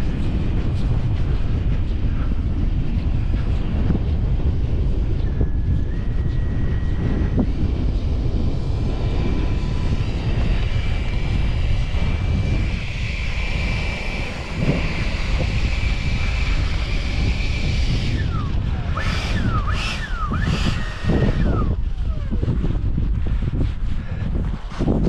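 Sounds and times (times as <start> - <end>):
electric ducted fans whining: 0.0 - 25.0
wind buffeting microphone: 0.0 - 25.0.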